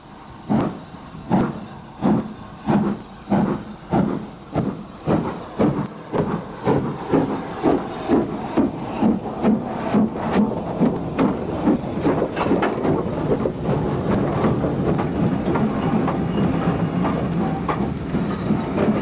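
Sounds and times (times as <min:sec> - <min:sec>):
steam locomotive exhaust chuffing: 0:00.0 - 0:19.0.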